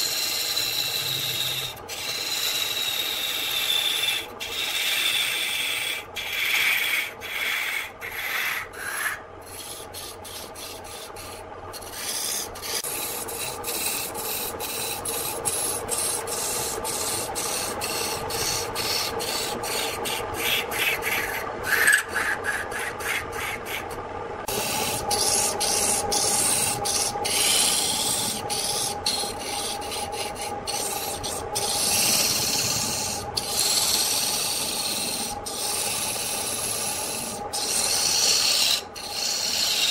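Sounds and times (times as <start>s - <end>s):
lathe motor hum: 0.0s - 39.9s
tool scraping spinning wood: 0.0s - 39.9s.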